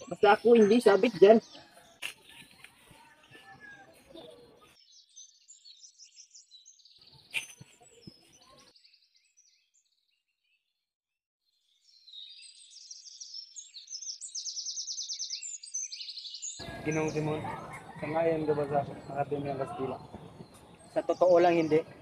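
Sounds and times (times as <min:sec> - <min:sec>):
small birds chirping: 0:00.0 - 0:10.8, 0:11.5 - 0:22.0.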